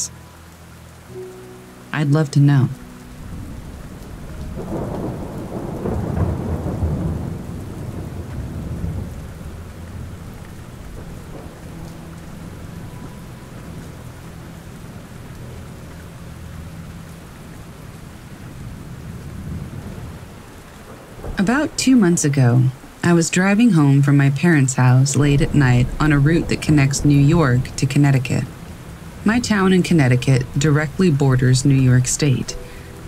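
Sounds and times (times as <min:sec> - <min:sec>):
steady rainfall: 0:00.0 - 0:33.0
thunder rolling: 0:03.1 - 0:23.1, 0:23.9 - 0:32.8.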